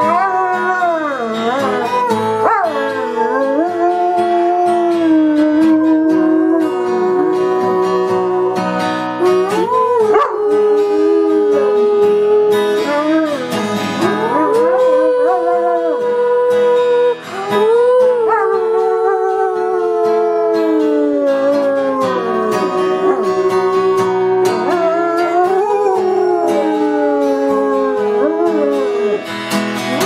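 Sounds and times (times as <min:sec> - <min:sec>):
dog howling: 0:00.0 - 0:29.3
strummed acoustic guitar: 0:00.0 - 0:30.0.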